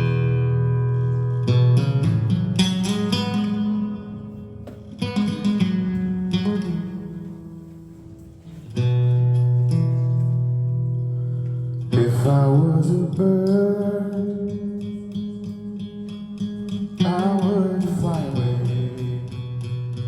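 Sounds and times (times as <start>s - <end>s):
guitar chords ringing: 0.0s - 20.0s.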